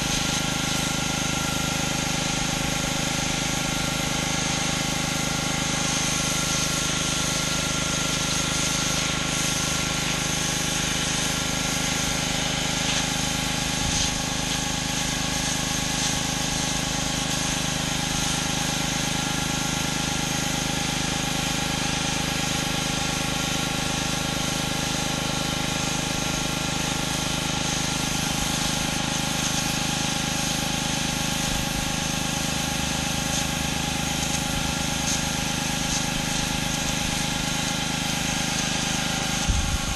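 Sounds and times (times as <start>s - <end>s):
pressure washer engine running: 0.0s - 39.9s
water spraying onto concrete: 0.0s - 39.9s.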